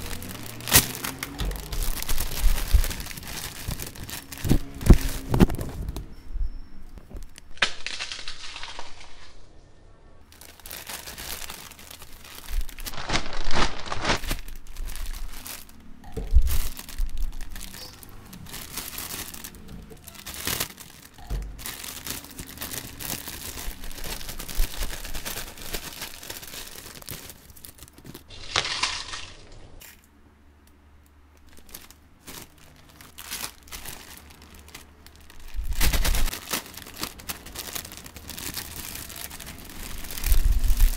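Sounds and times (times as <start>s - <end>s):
chip packets crinkling: 0.0s - 6.0s, 10.2s - 30.0s, 31.3s - 40.9s
chips rustling inside packet: 0.0s - 6.0s, 7.3s - 9.3s, 10.2s - 30.0s, 31.4s - 40.9s.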